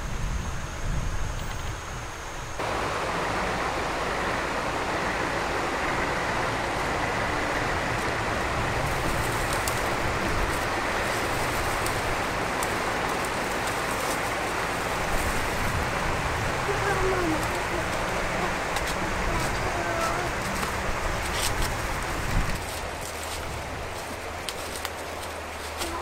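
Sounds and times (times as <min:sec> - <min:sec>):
running water rushing: 0:02.6 - 0:26.0.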